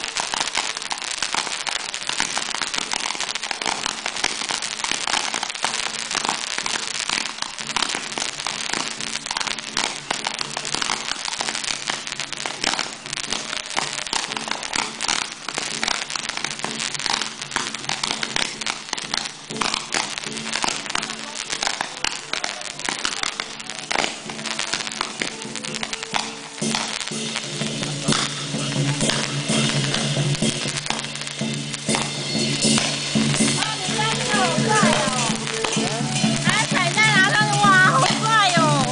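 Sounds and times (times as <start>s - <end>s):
fireworks crackling and popping: 0.0s - 38.9s.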